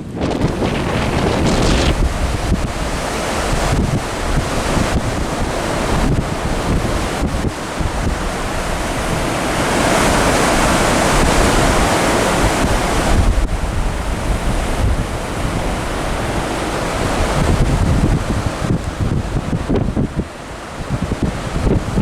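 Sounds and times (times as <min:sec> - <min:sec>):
gusting wind on microphone: 0:00.0 - 0:22.0.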